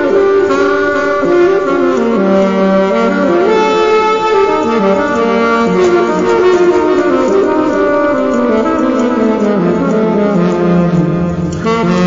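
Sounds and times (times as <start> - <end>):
saxophone melody: 0.0 - 12.0.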